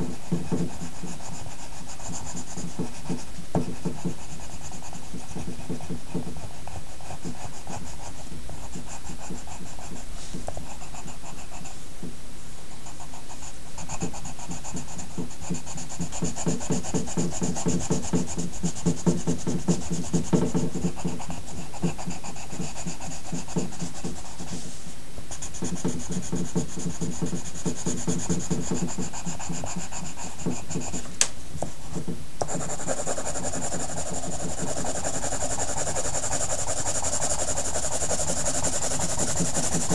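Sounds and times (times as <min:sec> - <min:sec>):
pencil rubbing on paper: 0:00.0 - 0:11.8, 0:12.8 - 0:31.1, 0:31.9 - 0:39.9.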